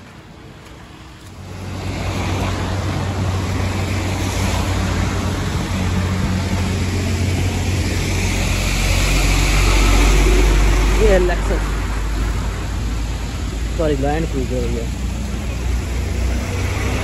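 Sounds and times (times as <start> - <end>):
car engine drone: 0.0 - 17.0
tyre and road noise: 0.0 - 17.0.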